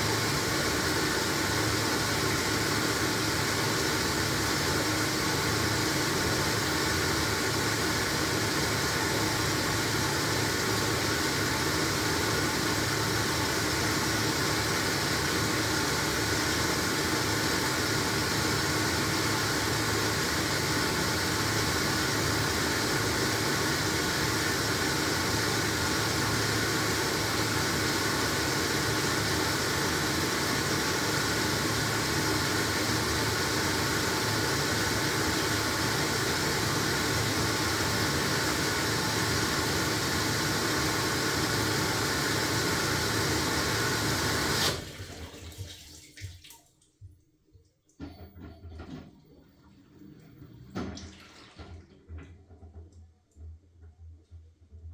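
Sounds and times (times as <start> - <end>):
washing machine running: 0.0 - 46.6, 47.9 - 54.9.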